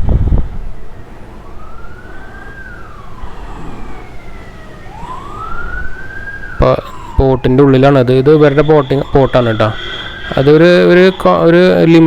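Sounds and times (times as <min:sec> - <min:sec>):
siren wailing: 0:00.4 - 0:12.0.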